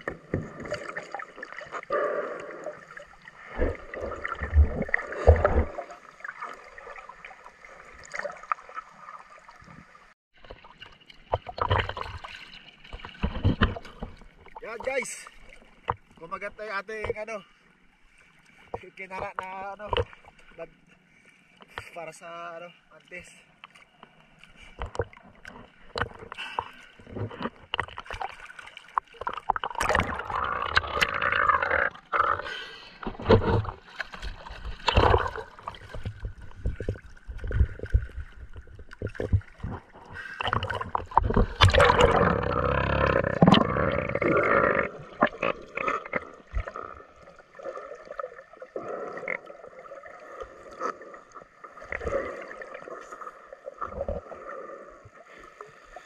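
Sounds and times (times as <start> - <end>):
underwater gurgling: 0.0 - 16.2, 24.8 - 56.0
muffled water sloshing and splashing: 0.0 - 56.0.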